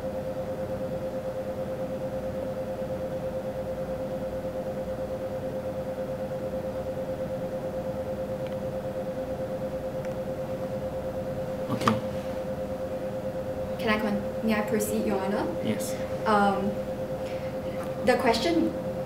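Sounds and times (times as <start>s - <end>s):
steady mid-pitched hum: 0.0s - 19.0s.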